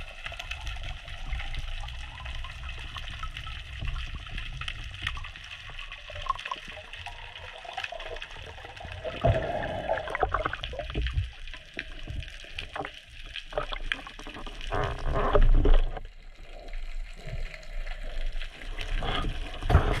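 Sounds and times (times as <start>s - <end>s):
underwater water rushing: 0.0s - 20.0s.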